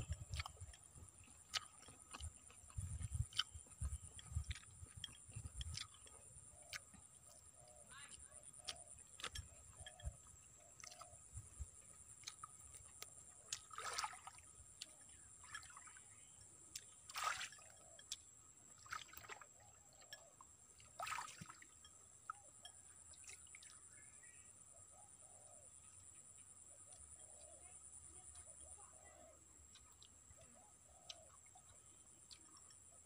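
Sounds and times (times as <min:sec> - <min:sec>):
wet chewing and lip-smacking: 0:00.0 - 0:24.0, 0:24.8 - 0:33.0.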